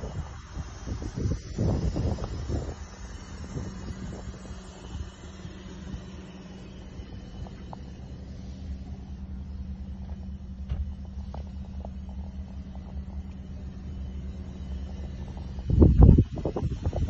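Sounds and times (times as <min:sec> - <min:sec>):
car cabin rumble and hum: 0:00.0 - 0:17.0.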